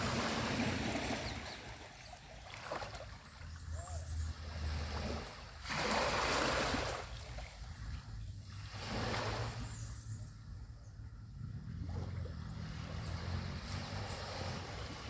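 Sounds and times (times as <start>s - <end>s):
small waves washing onto beach: 0.0s - 9.9s, 11.8s - 15.0s.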